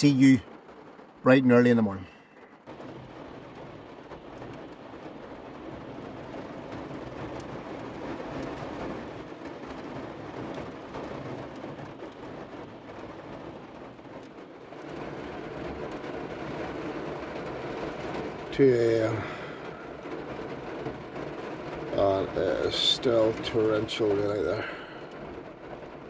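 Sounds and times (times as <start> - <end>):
heavy rain drumming on a car roof: 0.0 - 26.0.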